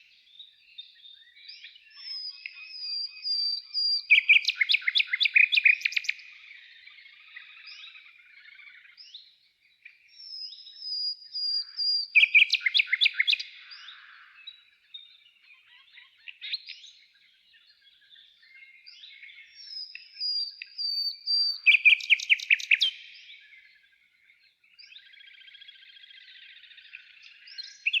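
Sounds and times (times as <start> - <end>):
soft bird twittering: 0.0 - 28.0
songbird singing: 0.0 - 28.0.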